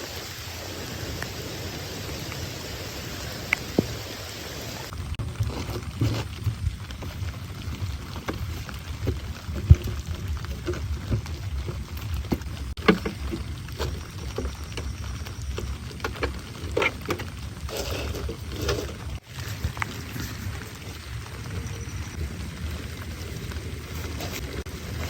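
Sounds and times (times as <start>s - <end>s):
drips and splashes: 0.0s - 25.0s
heavy rain falling: 0.0s - 25.0s.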